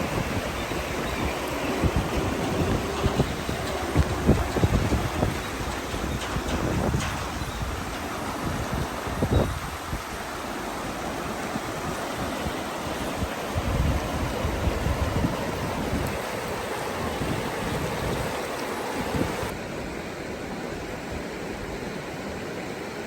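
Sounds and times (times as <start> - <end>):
wind buffeting microphone: 0.0 - 19.6
river water rushing: 0.0 - 23.0.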